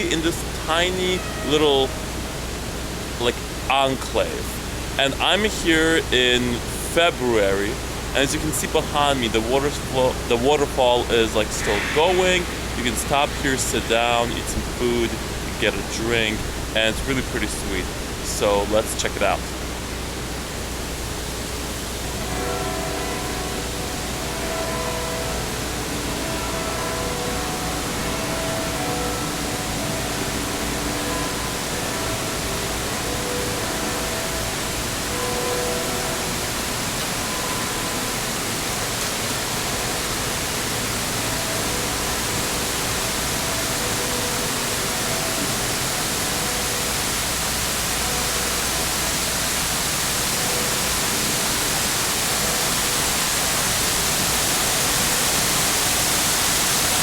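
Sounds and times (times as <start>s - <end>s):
waterfall pouring into basin: 0.0s - 18.6s, 27.2s - 57.0s.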